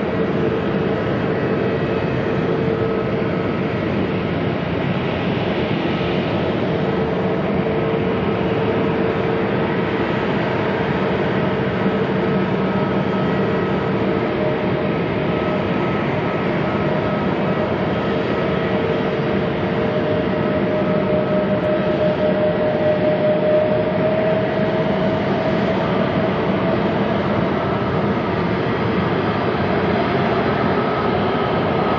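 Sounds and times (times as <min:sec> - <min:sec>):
jet engine rushing and whining: 0:00.0 - 0:31.9.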